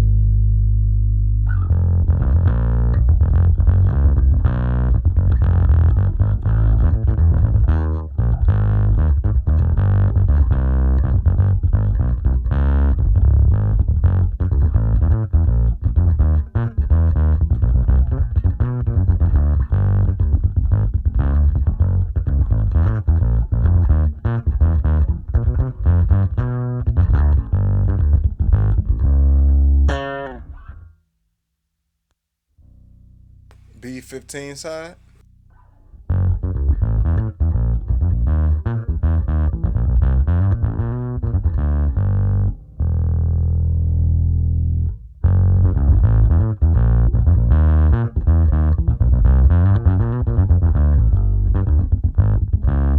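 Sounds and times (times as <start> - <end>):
electric bass guitar: 0.0 - 31.0, 35.0 - 52.9.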